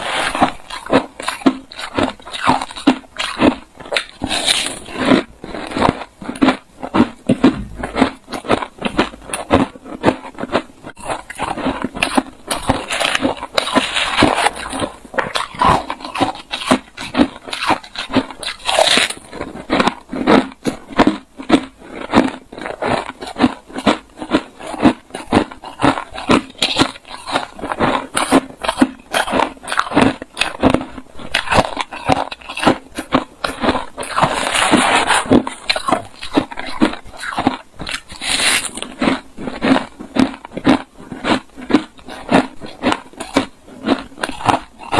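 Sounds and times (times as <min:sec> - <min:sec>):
ice crunching being chewed: 0:00.0 - 0:44.9.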